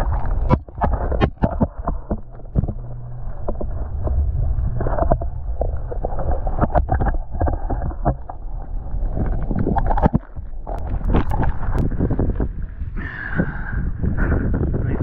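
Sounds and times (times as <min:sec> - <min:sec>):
muffled underwater sloshing: 0:00.0 - 0:15.0.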